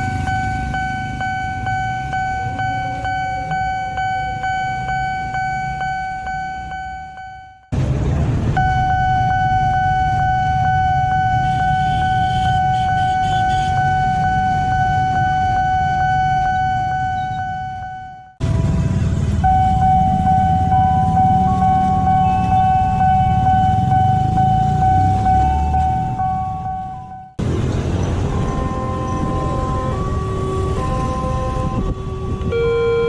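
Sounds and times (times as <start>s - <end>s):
pulsing warning tone: 0.0s - 7.8s, 8.6s - 33.0s.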